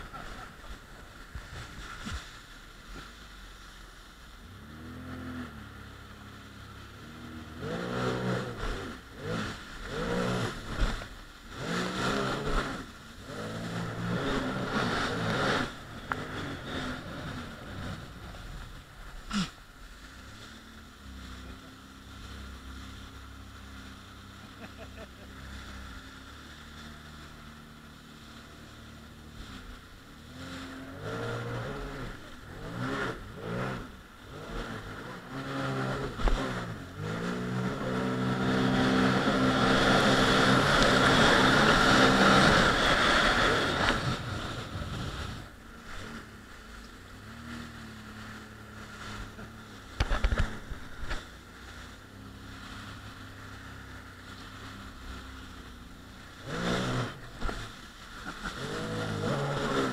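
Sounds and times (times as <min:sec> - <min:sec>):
jet ski engine: 0:00.0 - 0:59.9
water spray rushing: 0:04.4 - 0:59.9.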